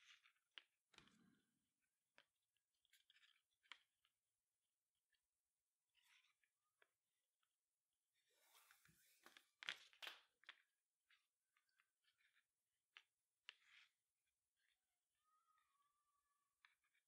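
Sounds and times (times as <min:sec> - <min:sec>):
small clicks and rubs: 0:00.0 - 0:15.1, 0:16.5 - 0:17.0.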